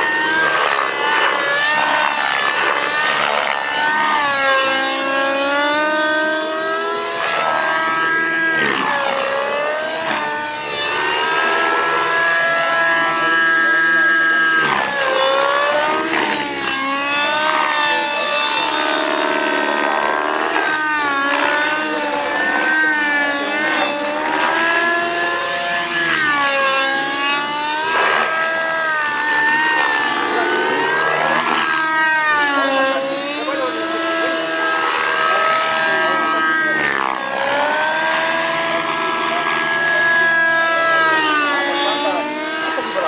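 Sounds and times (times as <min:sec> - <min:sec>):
model helicopter motor and rotor: 0:00.0 - 0:43.0.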